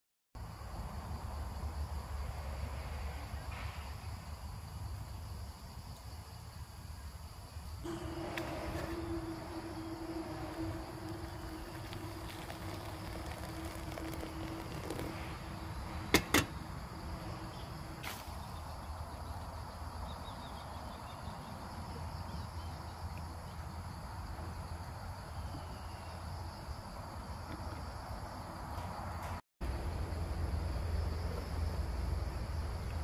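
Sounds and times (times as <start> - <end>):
insects chirring: 0.4 - 33.0.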